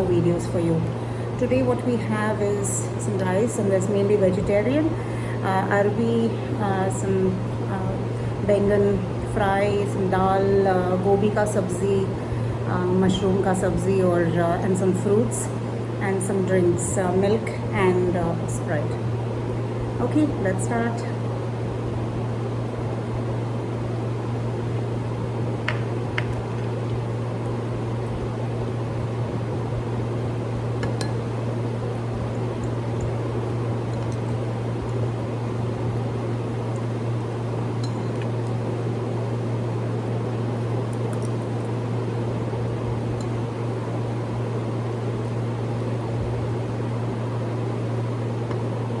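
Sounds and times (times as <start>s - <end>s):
electric fan humming: 0.0s - 49.0s.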